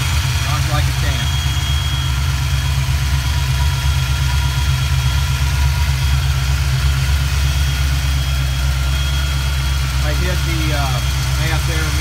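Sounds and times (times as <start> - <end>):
car engine idling: 0.0 - 12.0
faint steady whine: 0.1 - 12.0.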